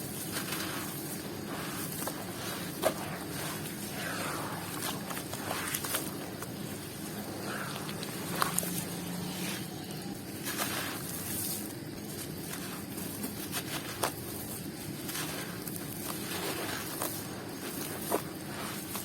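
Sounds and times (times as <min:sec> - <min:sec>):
crunchy balls crackling and crumbling: 0:00.0 - 0:19.0.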